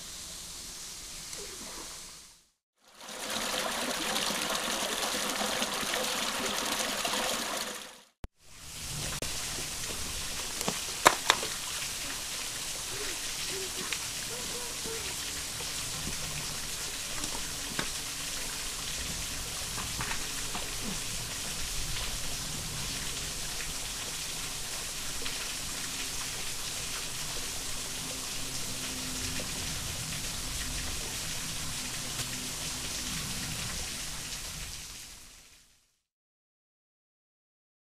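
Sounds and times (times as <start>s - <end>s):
creek water running over rocks: 0.0s - 35.6s.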